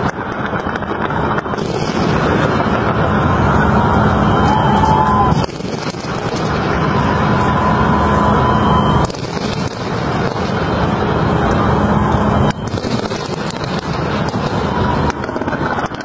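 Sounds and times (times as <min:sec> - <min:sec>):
fireworks crackling rumble: 0:00.0 - 0:16.0.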